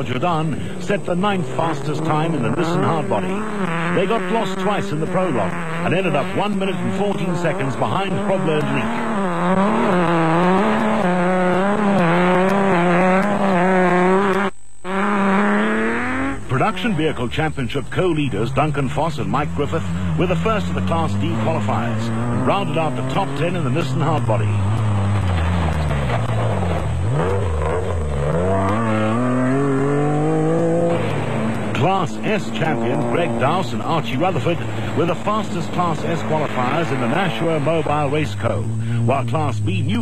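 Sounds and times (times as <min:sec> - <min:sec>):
pickup truck engine revving: 0:00.0 - 0:40.0.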